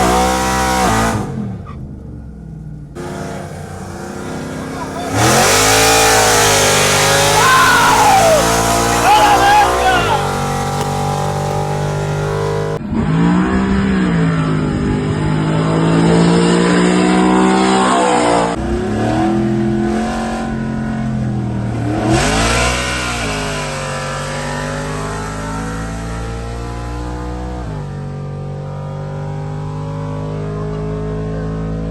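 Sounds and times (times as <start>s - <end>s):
car engines accelerating hard: 0.0s - 31.9s.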